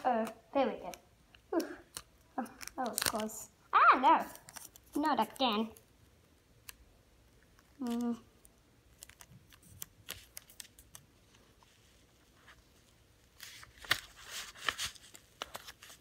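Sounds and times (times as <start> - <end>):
paper and tape rustling: 0.0 - 16.0.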